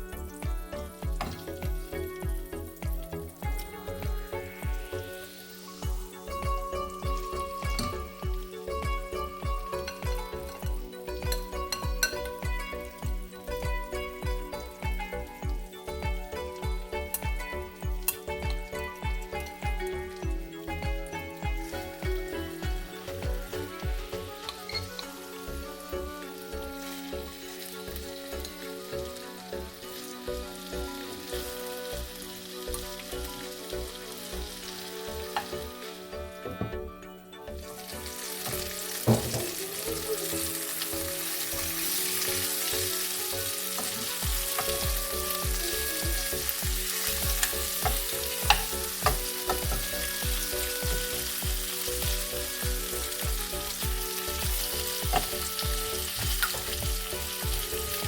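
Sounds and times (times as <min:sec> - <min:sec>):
chicken wings sizzling in a pan: 0:00.0 - 0:36.3, 0:37.6 - 0:58.0
steady-beat background music: 0:00.0 - 0:58.0.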